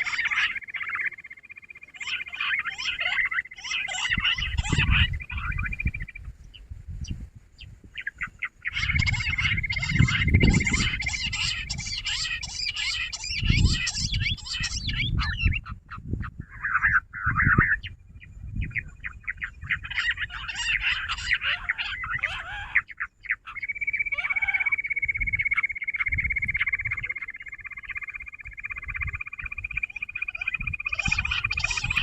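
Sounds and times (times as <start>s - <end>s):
quail calling in chattering chorus: 0.0s - 32.0s.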